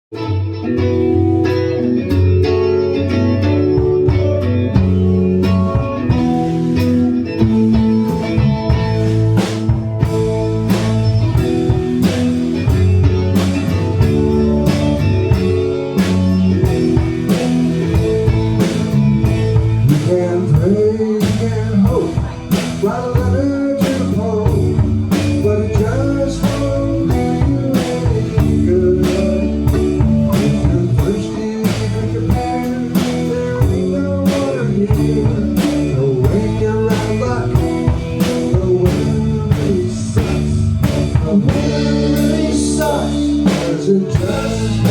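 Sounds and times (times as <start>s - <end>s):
bending lead guitar line: 0.1s - 44.9s
blues guitar: 0.1s - 44.9s
drum kit steady beat: 1.1s - 44.9s.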